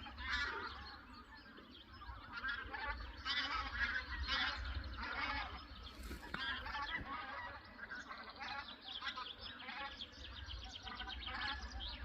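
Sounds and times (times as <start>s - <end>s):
geese honking: 0.0s - 12.0s
starlings chattering: 0.0s - 12.0s.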